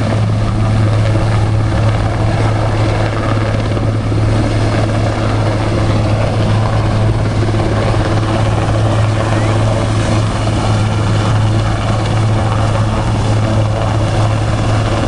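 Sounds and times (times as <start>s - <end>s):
helicopter rotor and engine drone: 0.0s - 15.0s.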